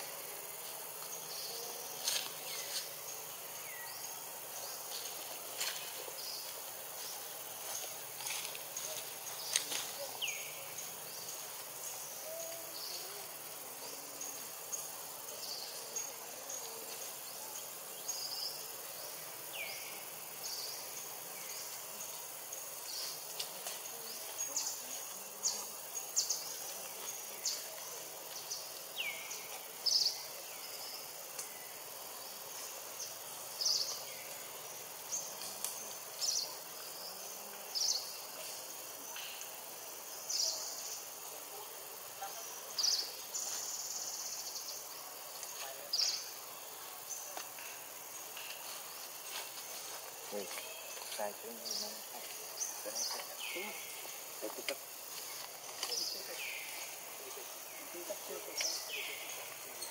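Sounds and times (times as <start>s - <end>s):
insects chirping: 0.0s - 59.9s
steady background hiss: 0.0s - 59.9s.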